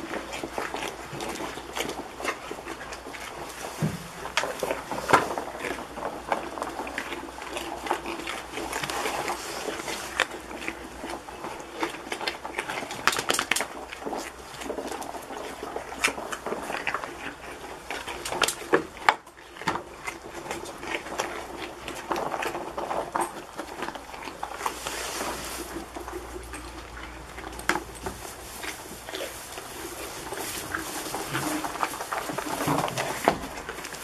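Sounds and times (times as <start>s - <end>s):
straw rustling: 0.0s - 18.4s, 21.9s - 34.0s
goats crunching and chewing: 0.0s - 34.0s.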